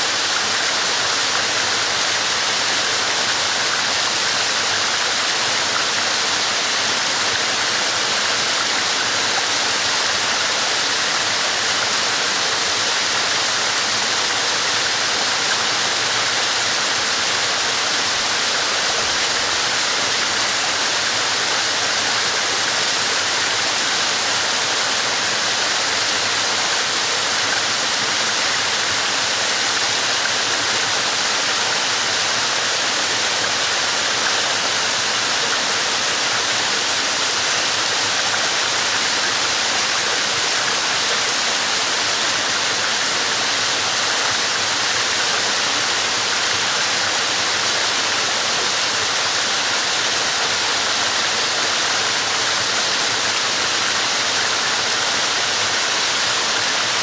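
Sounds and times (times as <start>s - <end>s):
waterfall splashing over rocks: 0.0s - 57.0s.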